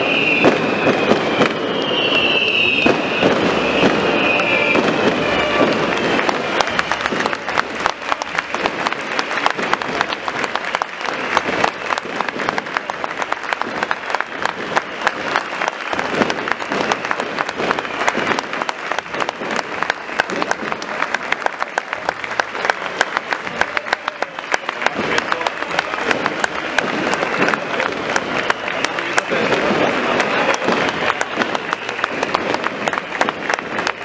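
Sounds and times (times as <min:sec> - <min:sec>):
crowd clapping: 0:00.0 - 0:34.0
crowd voices: 0:00.0 - 0:34.0.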